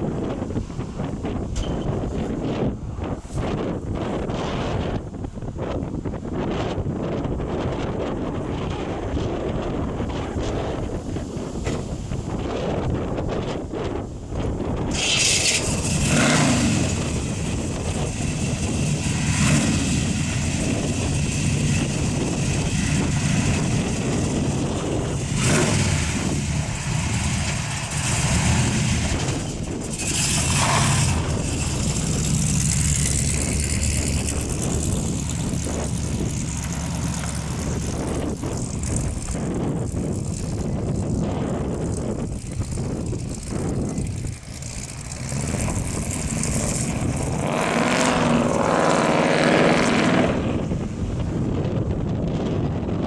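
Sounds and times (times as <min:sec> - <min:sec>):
wind on microphone: 0:00.0 - 0:53.0
car engine driving: 0:08.3 - 0:53.0.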